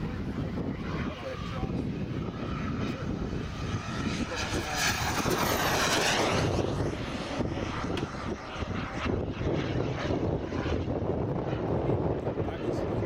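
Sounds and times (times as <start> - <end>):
jet turbine engine roar: 0.0 - 13.0.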